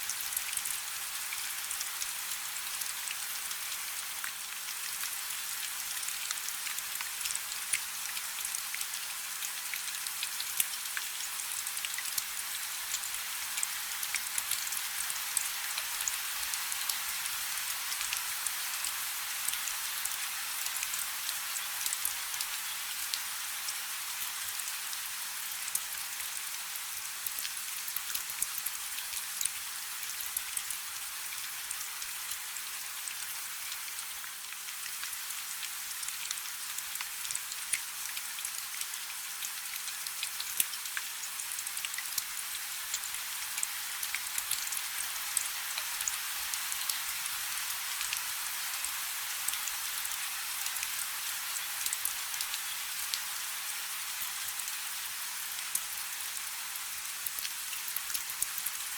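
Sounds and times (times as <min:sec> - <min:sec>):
rain falling on a river: 0:00.0 - 0:58.9.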